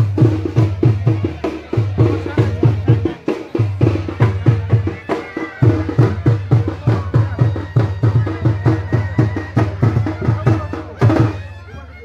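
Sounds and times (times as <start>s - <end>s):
folk drums beating fast: 0.0s - 12.0s.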